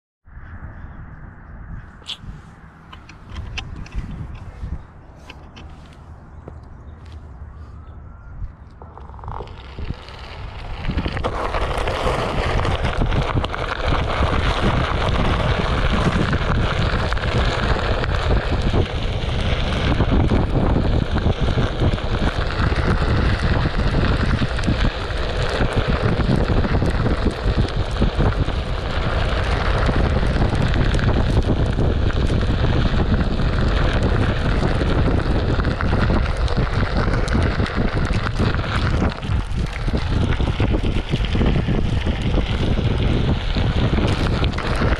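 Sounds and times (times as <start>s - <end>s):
wind buffeting microphone: 0.3s - 44.9s.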